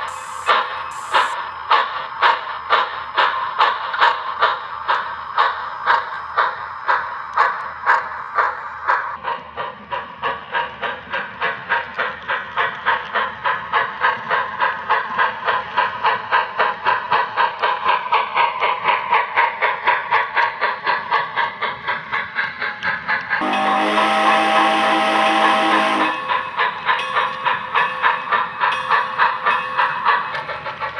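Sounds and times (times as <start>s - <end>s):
model steam locomotive chuffing: 0.0s - 30.9s.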